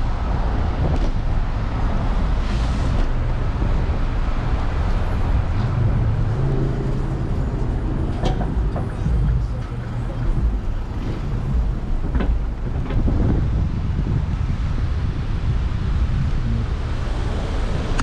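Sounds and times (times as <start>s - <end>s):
passing motor vehicles: 0.0s - 18.0s
vehicle engine hum: 0.0s - 18.0s.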